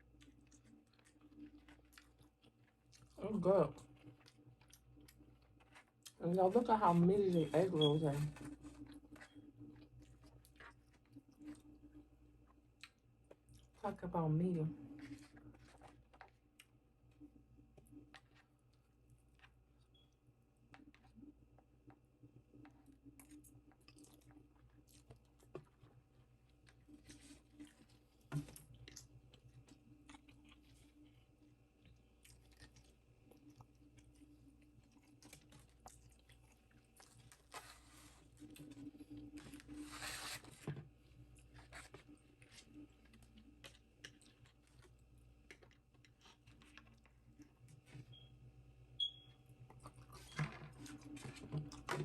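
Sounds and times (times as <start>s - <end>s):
person chewing and crunching food: 0.0s - 7.4s, 8.2s - 13.8s, 14.8s - 48.3s, 49.6s - 52.0s.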